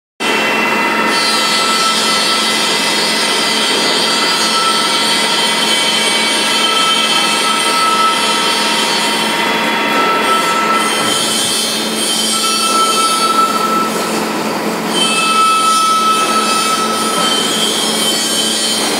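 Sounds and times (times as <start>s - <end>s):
lathe cutting metal: 0.2s - 18.9s.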